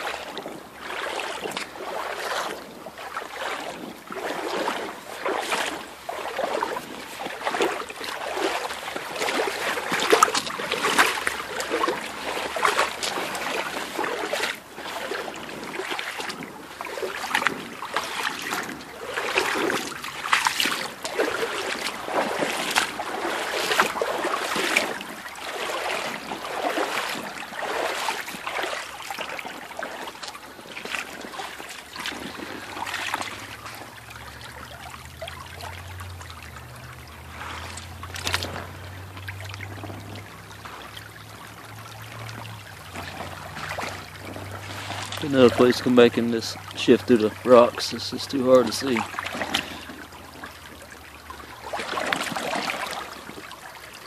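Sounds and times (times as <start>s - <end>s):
boots splashing through water: 0.0s - 54.0s.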